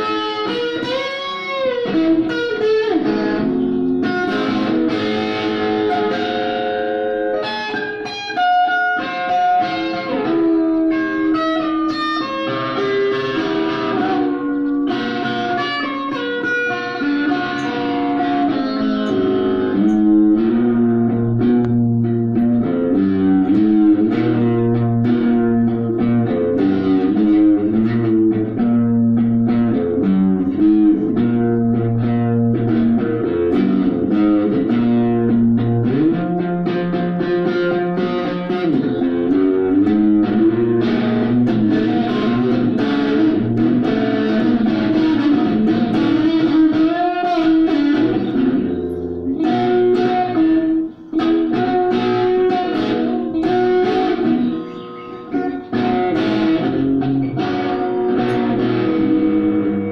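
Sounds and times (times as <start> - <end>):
electric guitar playing: 0.0 - 59.9.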